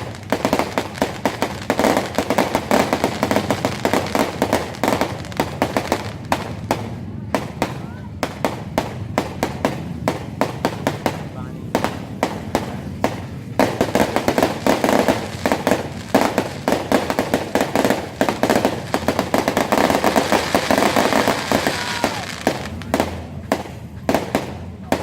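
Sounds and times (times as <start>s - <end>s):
fireworks cracks and bangs: 0.0s - 25.0s.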